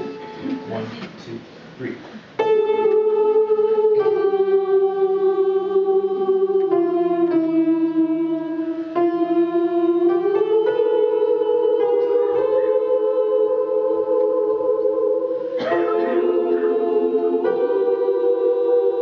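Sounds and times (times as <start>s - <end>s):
women's choir singing: 2.6s - 19.0s.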